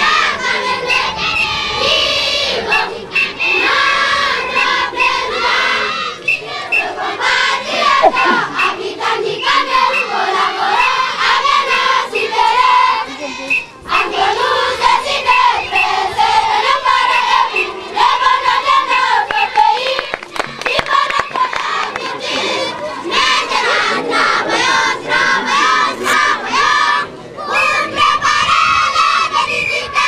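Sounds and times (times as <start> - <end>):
children singing a chant: 0.0 - 30.0.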